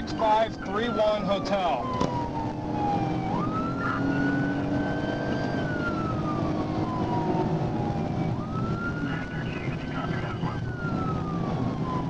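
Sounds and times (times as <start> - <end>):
police siren wailing: 0.0 - 12.0
road and engine noise: 0.0 - 12.0.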